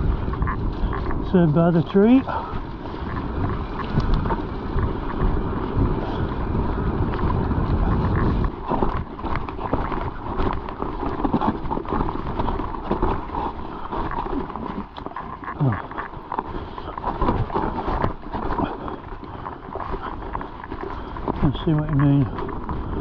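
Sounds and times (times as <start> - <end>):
bike knocks and rattles: 0.0 - 23.0
mountain bike running on trail: 0.0 - 23.0
wind buffeting microphone: 0.0 - 23.0.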